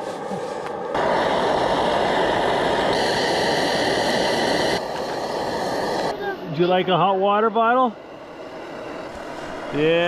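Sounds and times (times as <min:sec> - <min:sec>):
gas stove burner roaring: 0:00.0 - 0:10.0.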